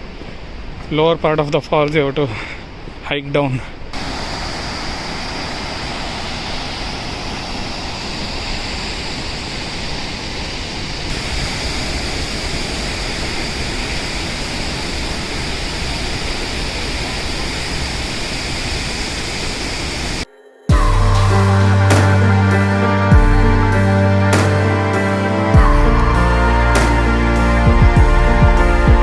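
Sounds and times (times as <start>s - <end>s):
waterfall rushing: 3.9s - 28.9s.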